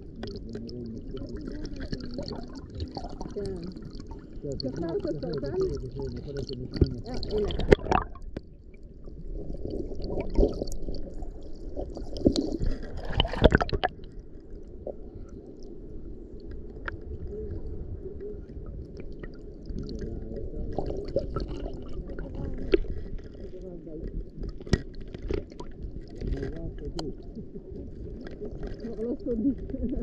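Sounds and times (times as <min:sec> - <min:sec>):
underwater sloshing: 0:00.0 - 0:30.0.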